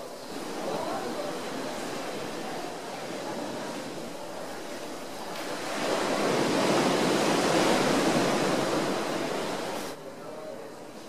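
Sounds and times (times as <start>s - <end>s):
ocean waves washing on beach: 0.0s - 11.0s.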